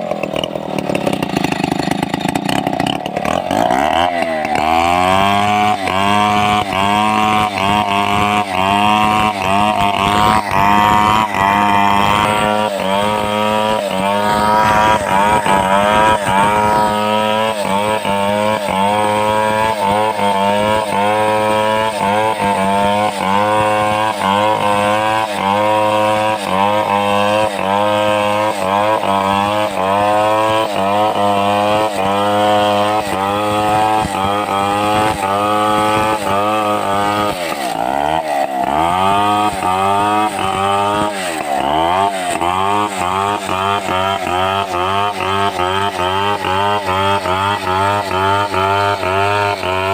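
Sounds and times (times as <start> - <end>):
chainsaw cutting timber: 0.0 - 49.9.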